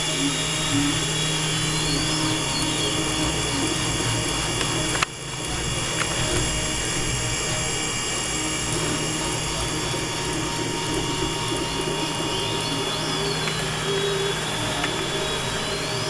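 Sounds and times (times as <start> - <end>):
high steady spindle tones: 0.0 - 16.0
milling machine cutting: 0.0 - 16.0.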